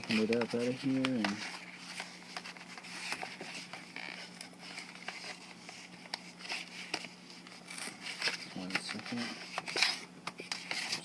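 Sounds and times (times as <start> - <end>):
packaging clicks and rustling: 0.0 - 11.0.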